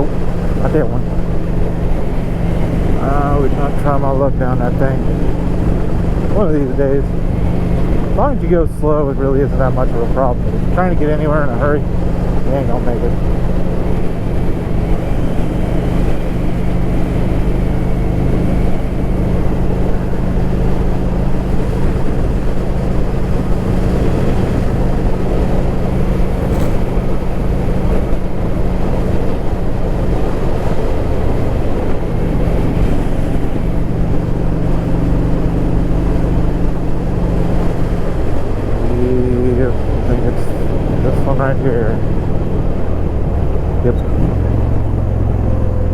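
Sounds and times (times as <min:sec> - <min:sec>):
tyres rumbling on dirt road: 0:00.0 - 0:45.9
vehicle engine running: 0:00.0 - 0:45.9.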